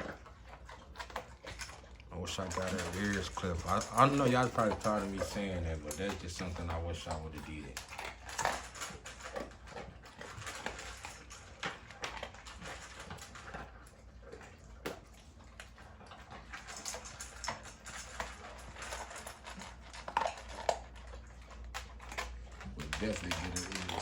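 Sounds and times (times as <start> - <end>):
dogs crunching dry food: 0.0 - 24.0.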